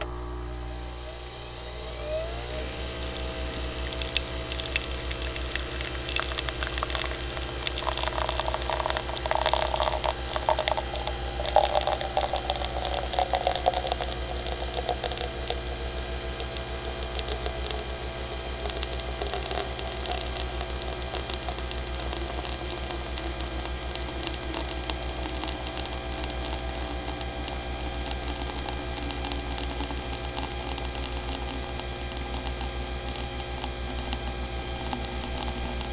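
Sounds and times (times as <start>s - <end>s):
coffee maker humming: 0.0s - 35.9s
coffee gurgling and sputtering: 0.4s - 35.9s.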